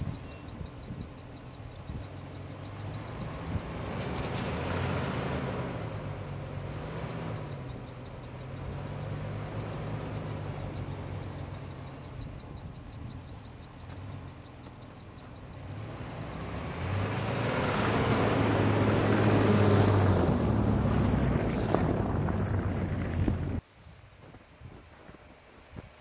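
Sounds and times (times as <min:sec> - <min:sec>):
engine pulling through snow: 0:00.0 - 0:23.6.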